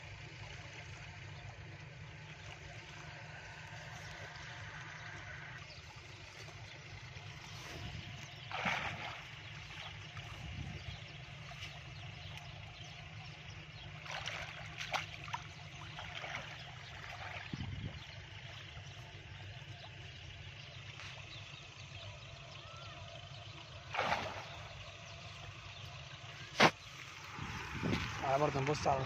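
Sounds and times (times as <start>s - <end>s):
steady low rumble: 0.0s - 29.0s
water sloshing as person wades: 0.5s - 21.5s, 23.8s - 28.6s.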